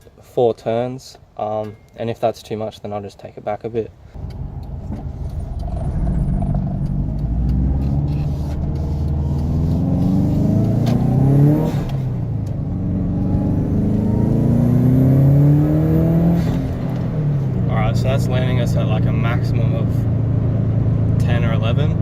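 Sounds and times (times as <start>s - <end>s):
turbocharged car engine accelerating: 4.2s - 22.0s.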